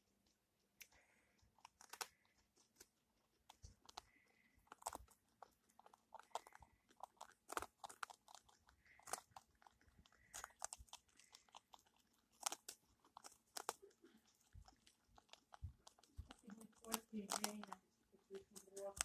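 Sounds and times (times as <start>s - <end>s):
guinea pig chewing: 0.0s - 19.0s.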